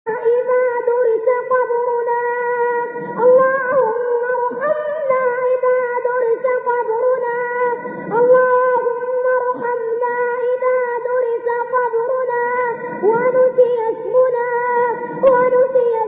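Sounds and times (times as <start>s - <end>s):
person chanting melodically: 0.1s - 16.0s.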